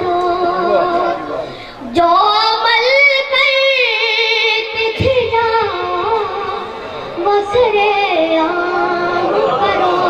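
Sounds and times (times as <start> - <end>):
boy singing chanted recitation: 0.0 - 10.0.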